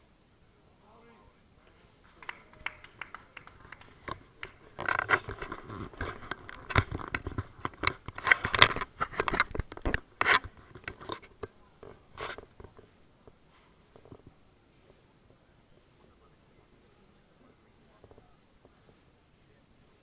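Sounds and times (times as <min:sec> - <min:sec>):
fabric rustling on microphone: 0:03.3 - 0:20.0.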